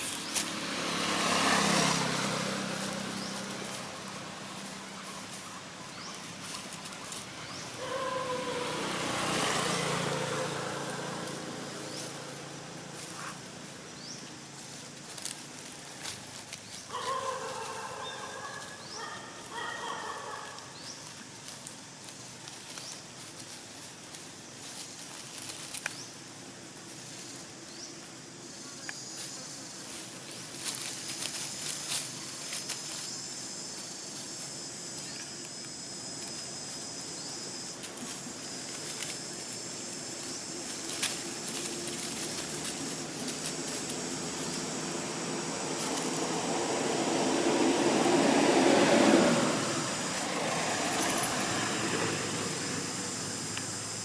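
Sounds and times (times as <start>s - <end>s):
high insect drone: 0.0s - 54.0s
passing motor vehicle: 0.0s - 54.0s.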